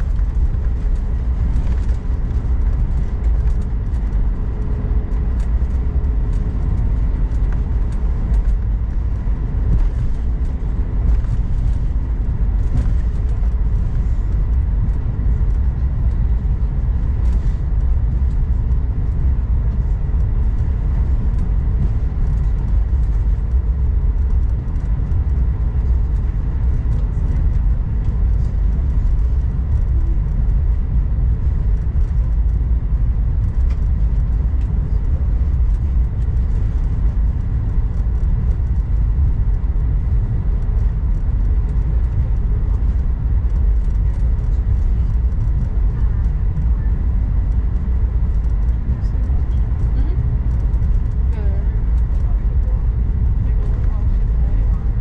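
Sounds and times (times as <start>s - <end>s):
aircraft cabin engine rumble: 0.0s - 55.0s
faint whine: 0.0s - 55.0s.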